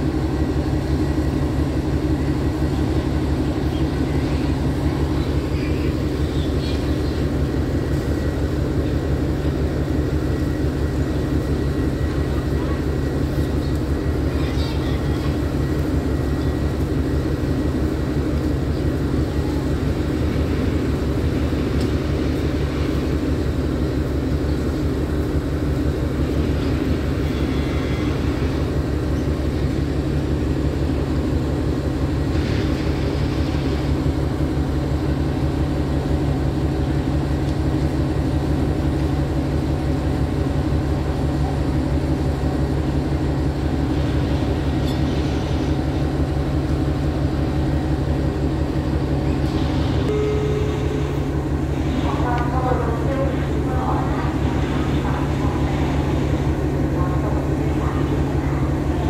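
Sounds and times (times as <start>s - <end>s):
diesel locomotive idling: 0.0s - 59.0s.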